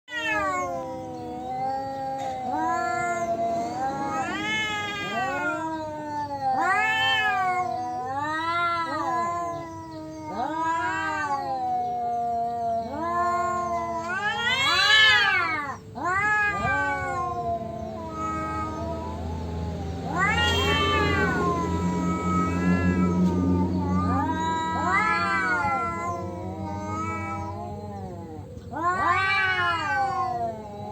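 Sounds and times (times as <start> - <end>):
cats caterwauling: 0.0 - 30.9.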